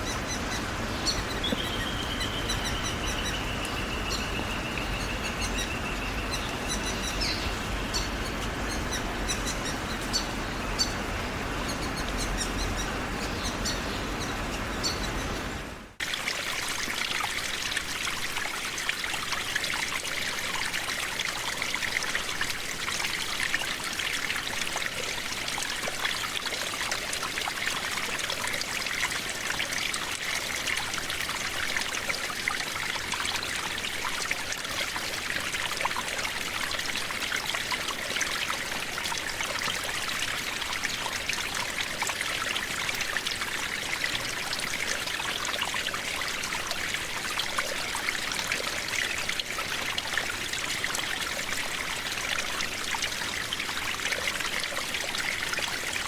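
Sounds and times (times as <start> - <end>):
running water: 0.0 - 56.0
trickling stream: 0.0 - 56.0.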